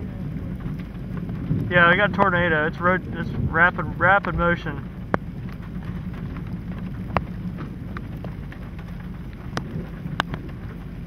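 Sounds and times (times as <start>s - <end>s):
low wind rumble: 0.0s - 11.0s
raindrops tapping microphone: 0.0s - 11.0s.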